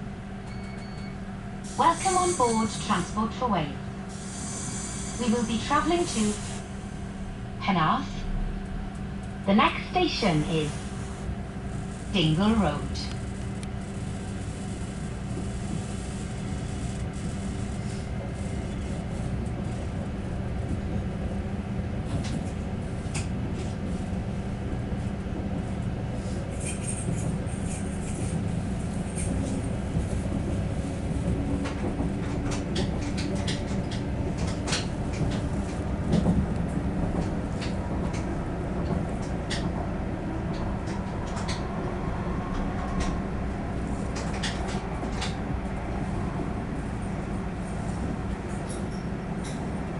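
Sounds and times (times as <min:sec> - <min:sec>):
train carriage rumble: 0:00.0 - 0:49.9.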